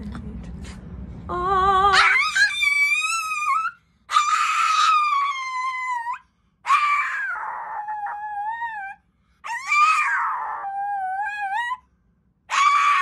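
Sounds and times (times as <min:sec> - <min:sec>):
dog howling: 0:01.4 - 0:11.8, 0:12.5 - 0:13.0.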